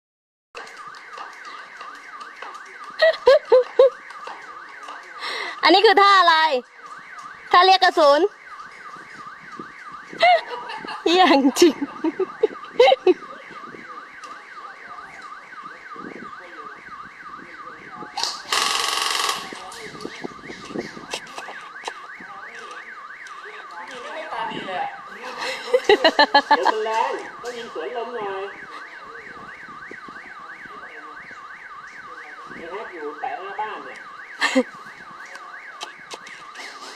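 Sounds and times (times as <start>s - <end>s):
electronic warbling siren: 0.6s - 36.8s.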